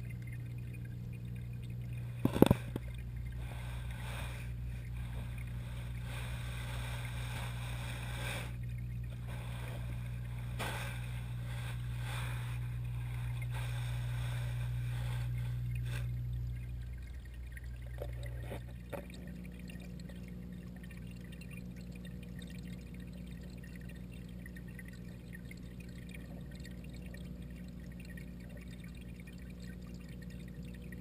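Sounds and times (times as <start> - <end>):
underwater pump hum: 0.0 - 31.0.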